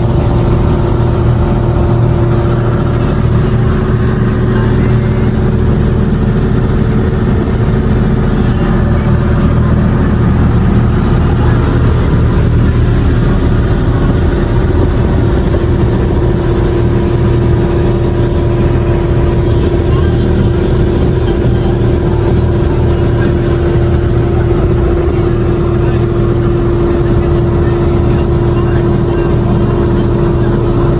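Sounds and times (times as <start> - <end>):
boat engine running: 0.0 - 30.9.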